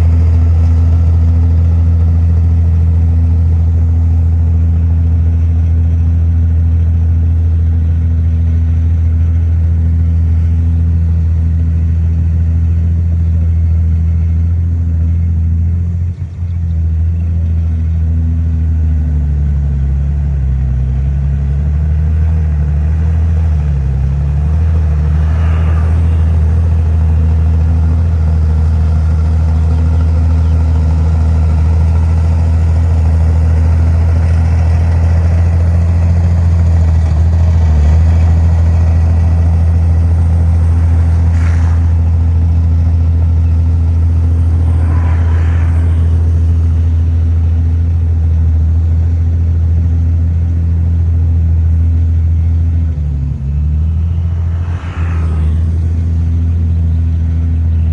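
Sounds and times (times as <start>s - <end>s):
heavy diesel engine droning: 0.0s - 57.9s.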